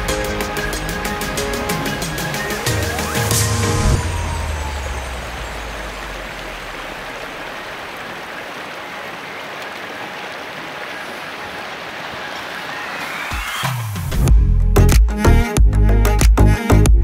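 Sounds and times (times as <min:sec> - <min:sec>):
water rushing over rocks: 0:00.0 - 0:14.2.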